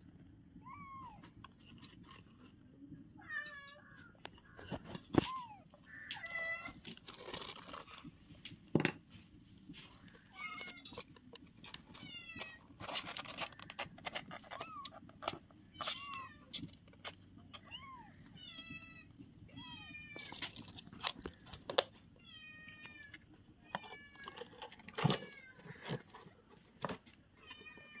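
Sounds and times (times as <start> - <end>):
scratching: 1.2 - 2.8, 3.4 - 28.0.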